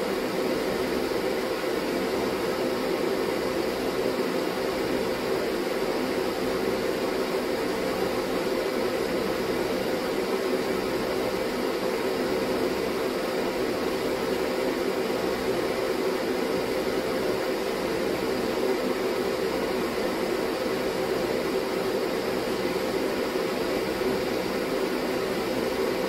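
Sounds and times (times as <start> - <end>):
ventilation fan running: 0.0 - 26.0.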